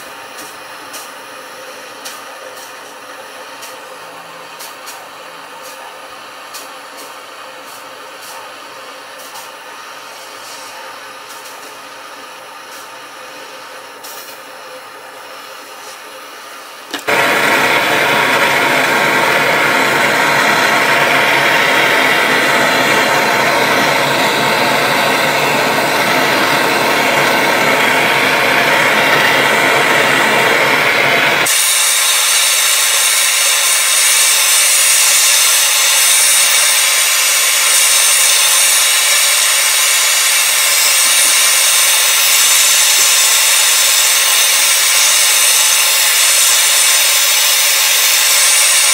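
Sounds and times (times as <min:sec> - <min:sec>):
gas torch flame hissing: 0:00.0 - 0:48.9.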